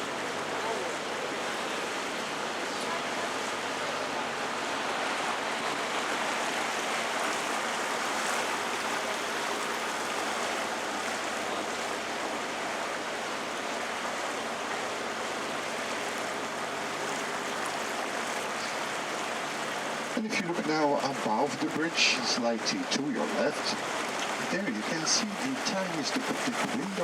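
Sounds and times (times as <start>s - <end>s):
boat motor: 0.0s - 27.0s
water washing past boat hull: 0.0s - 27.0s.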